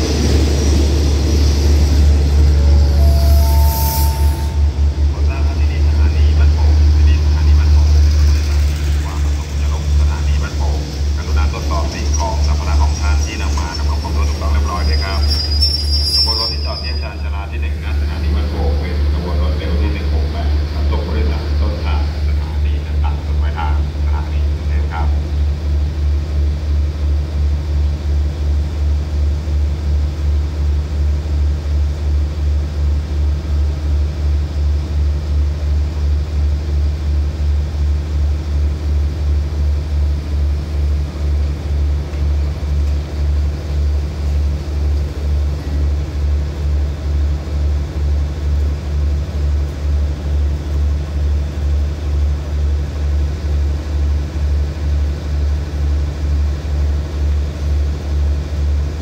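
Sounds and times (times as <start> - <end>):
diesel train engine idling: 0.0 - 59.0.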